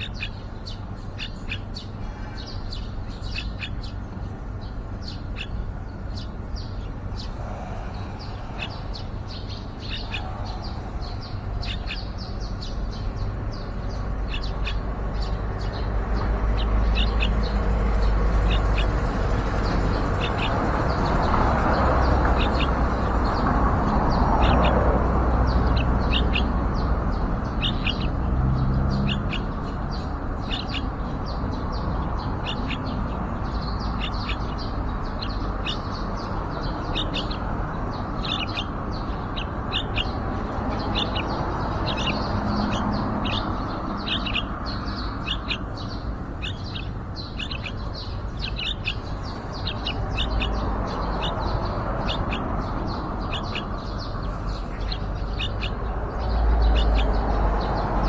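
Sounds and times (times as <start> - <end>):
bulbuls chirping: 0.0 - 58.0.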